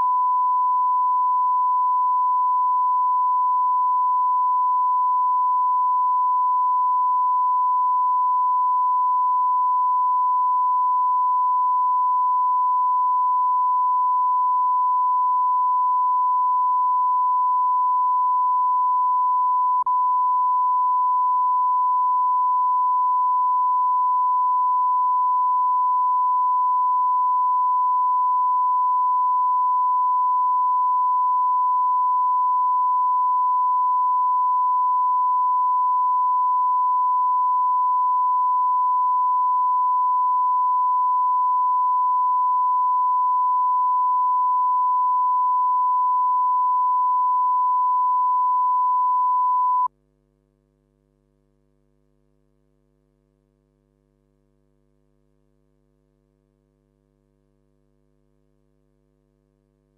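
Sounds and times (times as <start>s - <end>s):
steady pure test tone: 0.0s - 49.9s.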